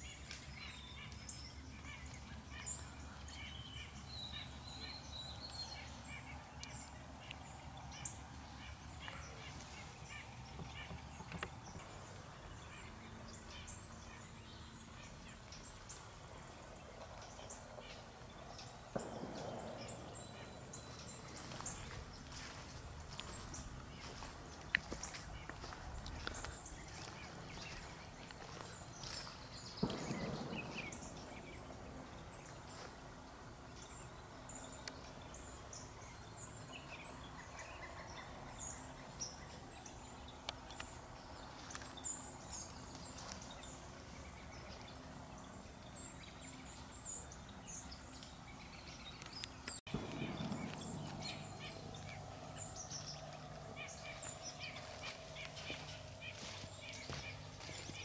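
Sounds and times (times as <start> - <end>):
faint low hum: 0.0 - 58.0
small birds chirping: 0.0 - 58.0.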